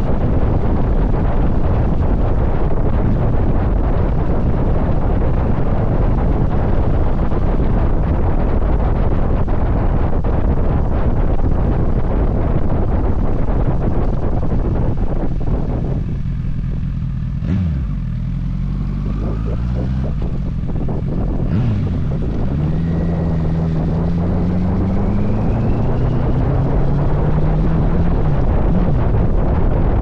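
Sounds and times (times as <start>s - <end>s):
motorcycle engine accelerating: 0.0s - 30.0s
wind rush: 0.0s - 30.0s.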